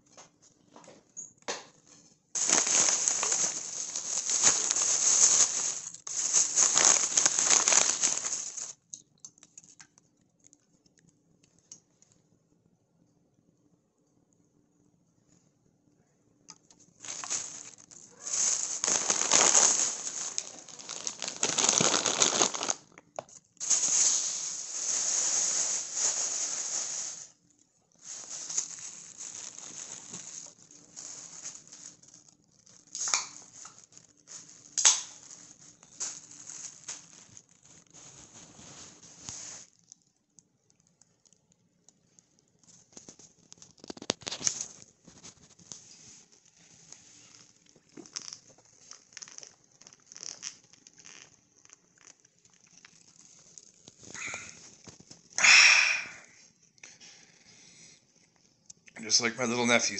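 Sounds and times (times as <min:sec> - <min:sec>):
rustling and crinkling handling noise: 0:00.0 - 0:12.2, 0:16.5 - 0:55.4.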